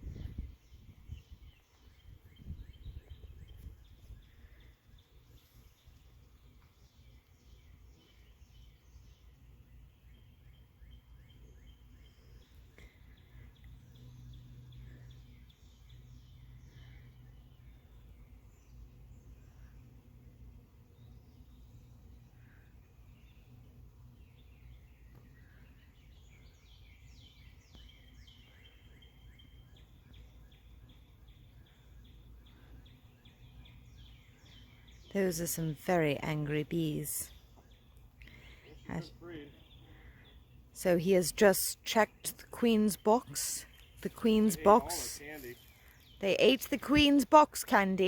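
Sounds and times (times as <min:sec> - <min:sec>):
small bird chirping: 0:00.0 - 0:20.0, 0:20.9 - 0:48.0.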